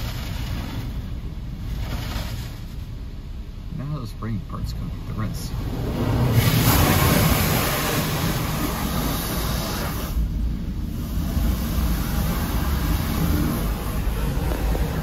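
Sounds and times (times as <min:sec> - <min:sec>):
deep rumble: 0:00.0 - 0:15.0
water jets spraying car: 0:00.0 - 0:15.0.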